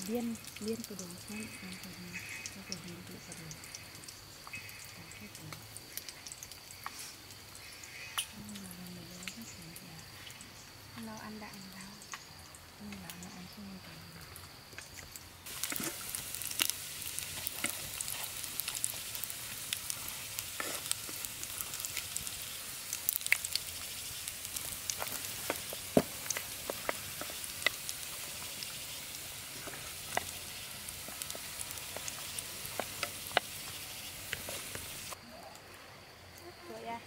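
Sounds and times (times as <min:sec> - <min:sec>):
food sizzling in a pan: 0:00.0 - 0:14.5, 0:15.4 - 0:35.2
oil popping and crackling: 0:00.0 - 0:35.7.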